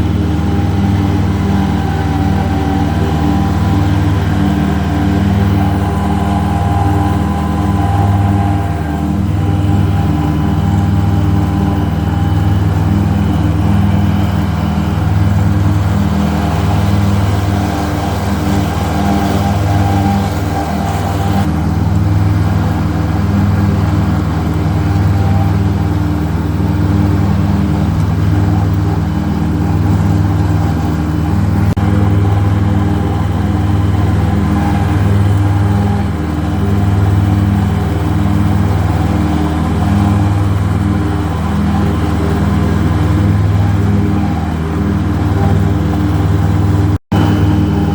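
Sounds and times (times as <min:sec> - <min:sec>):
mower diesel engine running: 0:00.0 - 0:47.9.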